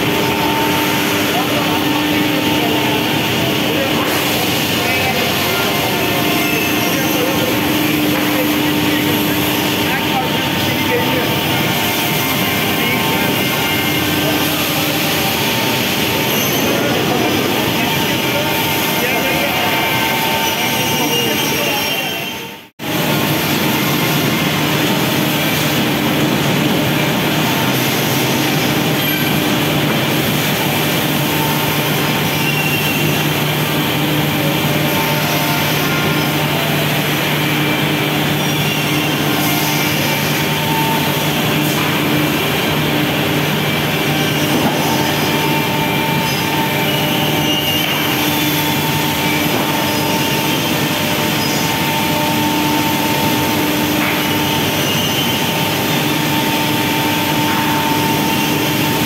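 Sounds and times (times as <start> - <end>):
factory machinery drone: 0.0 - 59.0.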